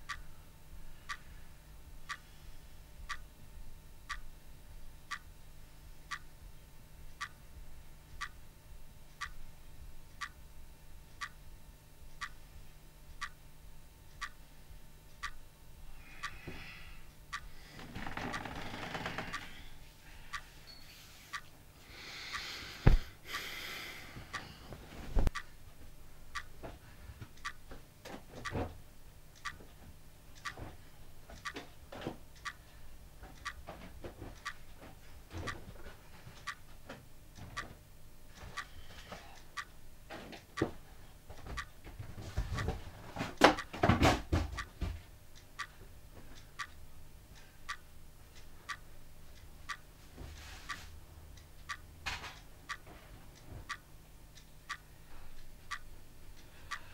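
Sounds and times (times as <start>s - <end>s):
clock ticking: 0.0s - 0.3s, 1.0s - 2.4s, 3.0s - 3.4s, 4.0s - 4.4s, 5.0s - 5.4s, 6.0s - 6.4s, 7.1s - 19.7s, 20.3s - 20.5s, 21.3s - 21.5s, 22.2s - 24.6s, 25.2s - 56.9s.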